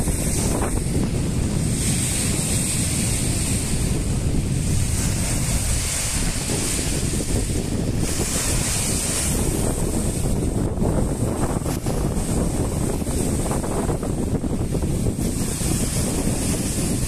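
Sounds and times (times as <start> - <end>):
waves breaking on rocky shore: 0.0 - 17.0
wind buffeting microphone: 0.0 - 17.0.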